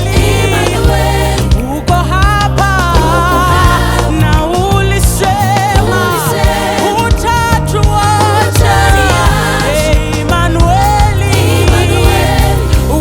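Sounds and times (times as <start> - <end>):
band with bass and drums: 0.0 - 13.0
singer with wide vibrato: 0.0 - 13.0.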